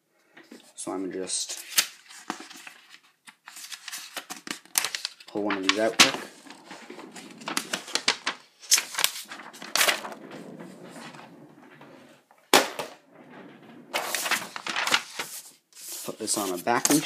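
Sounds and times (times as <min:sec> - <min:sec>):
paper rustling: 0:01.4 - 0:17.0.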